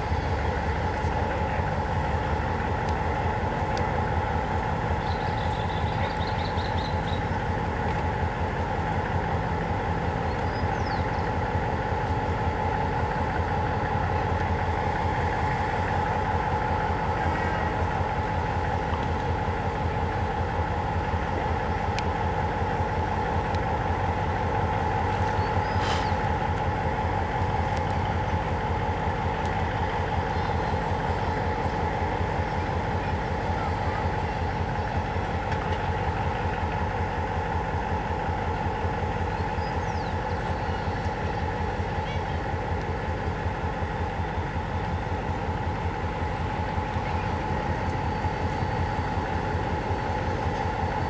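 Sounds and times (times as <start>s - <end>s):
locomotive diesel engine throbbing: 0.0s - 51.0s.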